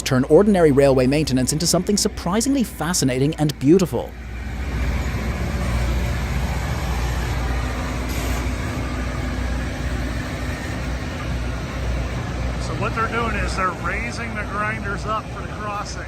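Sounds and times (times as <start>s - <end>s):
rail grinding train noise: 0.0s - 16.0s.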